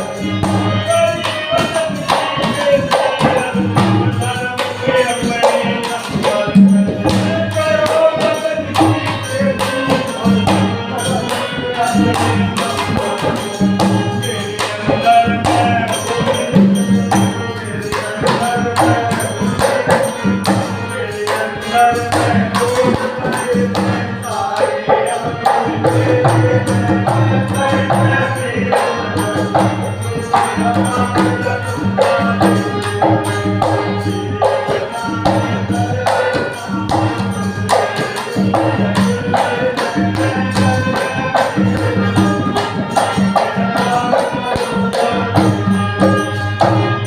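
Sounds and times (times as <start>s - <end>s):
devotional music: 0.0s - 47.0s
hand percussion beat: 0.0s - 47.0s.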